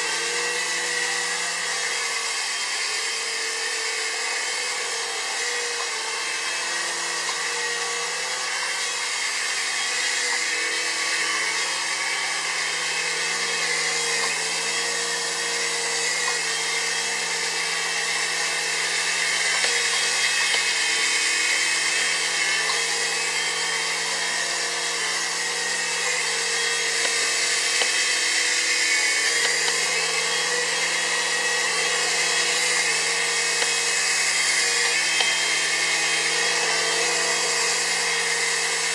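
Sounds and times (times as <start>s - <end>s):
toy helicopter rotors whirring: 0.0s - 38.9s.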